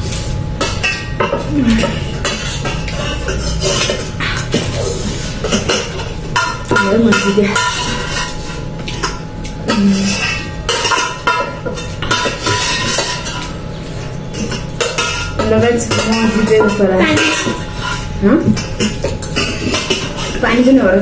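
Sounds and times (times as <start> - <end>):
cutlery clinking on metal bowls: 0.0 - 21.0.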